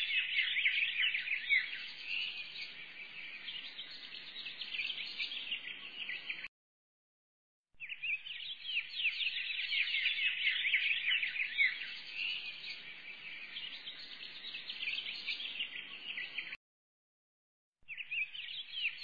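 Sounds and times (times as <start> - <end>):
small birds chirping: 0.0 - 6.5, 7.8 - 16.6, 17.8 - 19.0.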